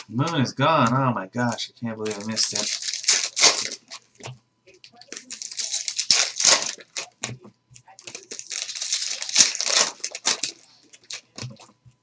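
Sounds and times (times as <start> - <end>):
foil wrapper crinkling: 1.4 - 11.8.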